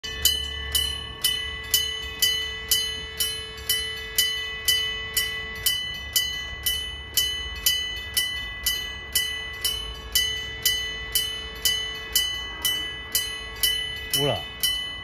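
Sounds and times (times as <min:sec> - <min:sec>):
level-crossing warning bell ringing: 0:00.0 - 0:15.0.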